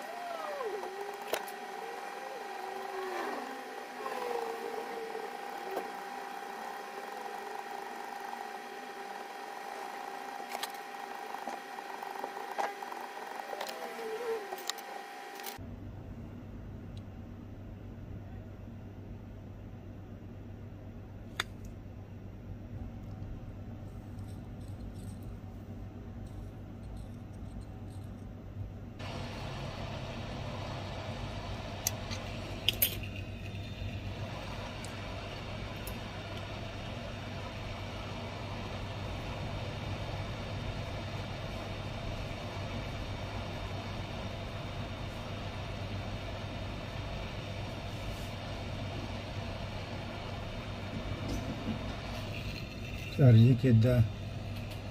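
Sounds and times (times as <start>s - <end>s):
steady electrical hum: 0.0s - 54.9s.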